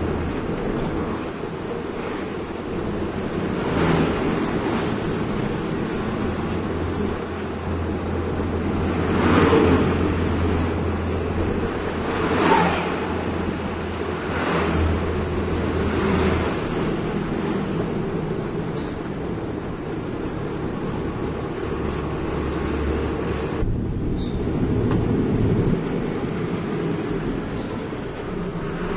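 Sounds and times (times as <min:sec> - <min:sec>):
heavy diesel engine running: 0:00.0 - 0:28.9
rushing noise: 0:00.0 - 0:28.9.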